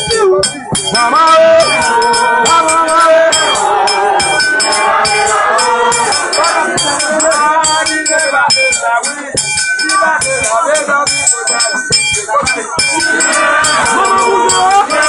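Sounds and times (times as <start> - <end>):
high ringing tone: 0.0 - 15.0
voices singing together: 0.0 - 15.0.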